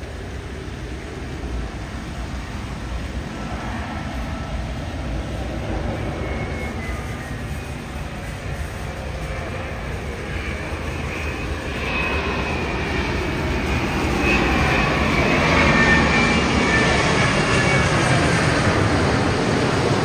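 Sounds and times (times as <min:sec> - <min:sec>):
high engine whine: 0:00.0 - 0:20.0
jet engines roaring: 0:00.0 - 0:20.0.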